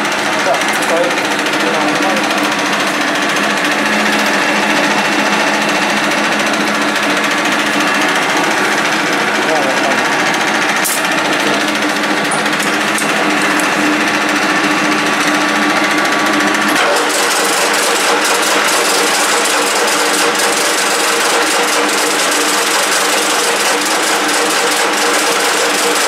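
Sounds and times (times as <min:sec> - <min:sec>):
lathe humming and whining: 0:00.0 - 0:26.0.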